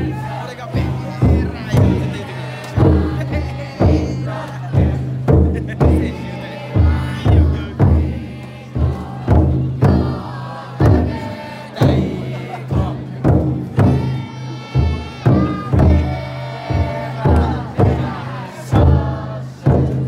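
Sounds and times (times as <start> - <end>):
large drum beaten in rhythm: 0.0 - 20.0
voices chanting: 0.0 - 20.0.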